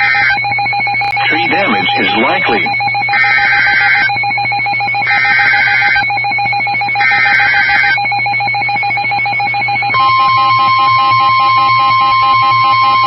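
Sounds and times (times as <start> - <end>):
warning alarm tone: 0.0 - 13.0.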